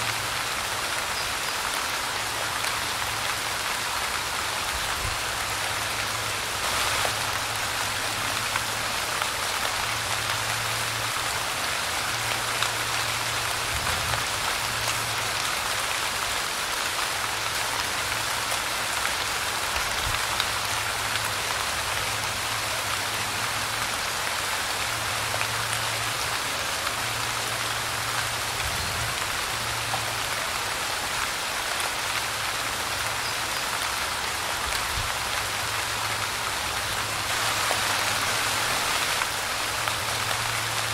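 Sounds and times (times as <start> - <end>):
light rain pattering: 0.0 - 40.9.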